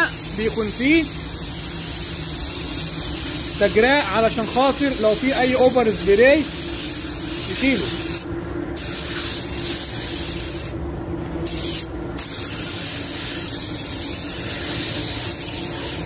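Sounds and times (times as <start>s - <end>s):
spray gun hissing: 0.0s - 10.8s, 11.4s - 16.0s.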